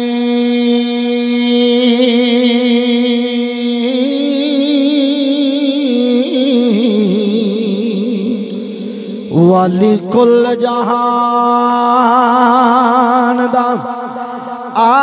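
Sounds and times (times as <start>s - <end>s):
man singing long note: 0.0s - 8.5s, 9.3s - 15.0s.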